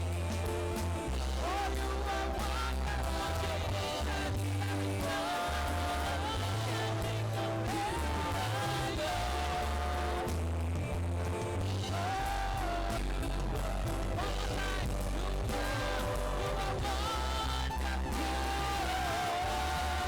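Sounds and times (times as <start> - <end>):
band playing: 0.0 - 20.0
person singing: 0.0 - 20.0
steady bass line: 0.0 - 20.0.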